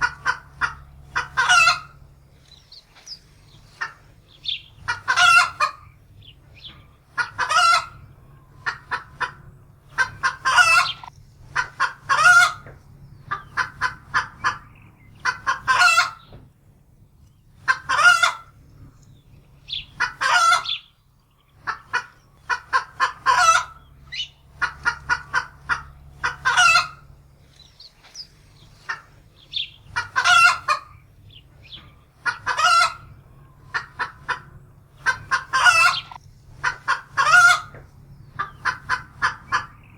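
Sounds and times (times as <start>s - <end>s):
hen clucking and squawking: 0.0s - 16.4s, 17.2s - 39.9s.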